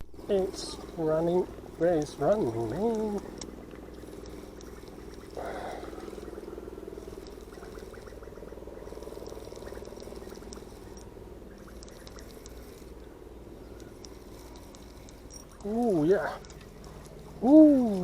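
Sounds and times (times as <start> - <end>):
fishing reel buzzing: 0.0 - 18.0.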